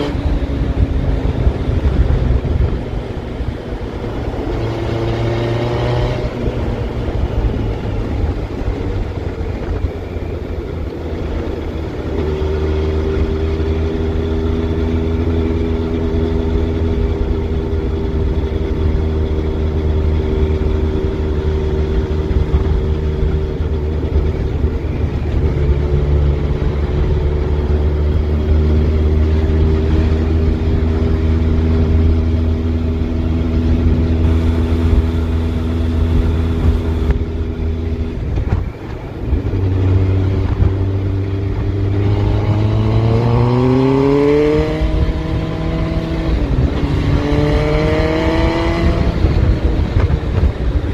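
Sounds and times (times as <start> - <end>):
vehicle engine drone: 0.0 - 50.9.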